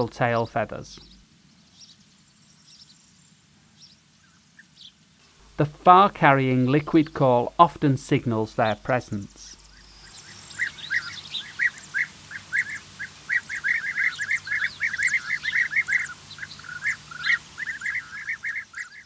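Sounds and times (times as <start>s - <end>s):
bee-eaters calling: 0.0s - 3.2s, 3.8s - 19.0s.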